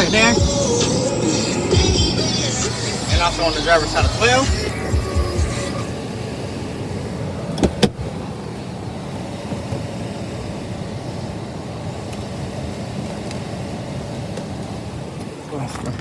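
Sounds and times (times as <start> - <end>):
car cabin hum with air blowing: 0.0 - 16.0.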